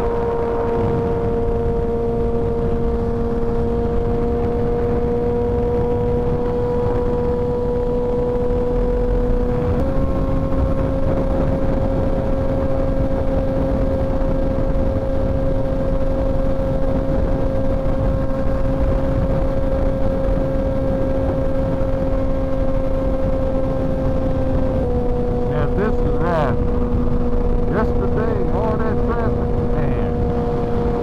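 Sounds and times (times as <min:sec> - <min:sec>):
motorcycle engine cruising: 0:00.0 - 0:31.0
wind rush on microphone: 0:00.0 - 0:31.0.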